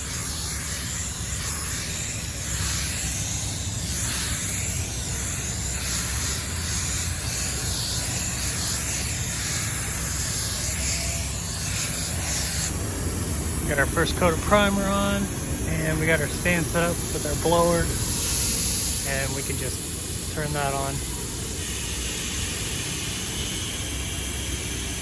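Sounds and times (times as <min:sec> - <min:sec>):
spray gun hissing: 0:00.0 - 0:25.0.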